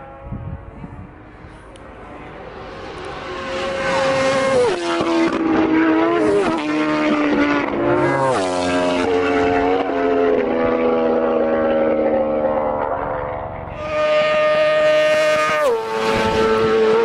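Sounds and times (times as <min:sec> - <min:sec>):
motorcycle engine revving and shifting: 0:01.7 - 0:17.0.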